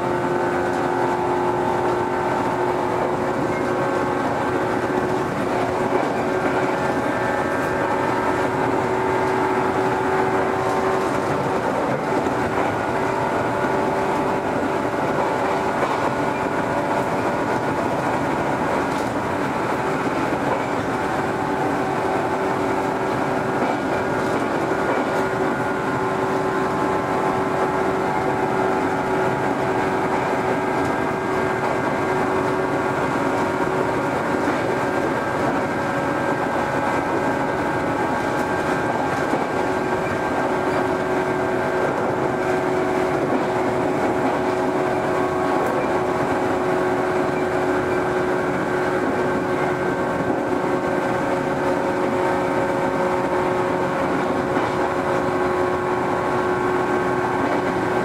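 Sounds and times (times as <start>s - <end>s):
electric train rumble and whine: 0.0s - 58.0s.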